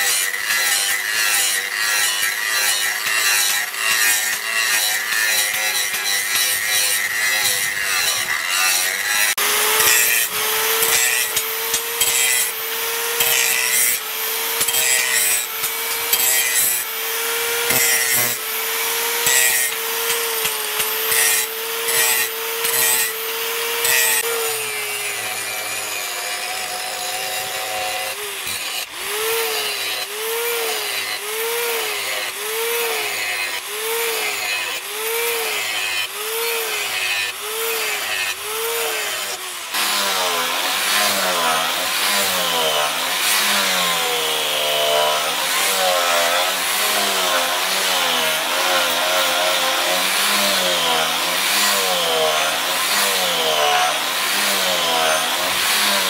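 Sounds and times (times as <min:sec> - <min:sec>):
angle grinder grinding steel: 0:00.0 - 0:56.0.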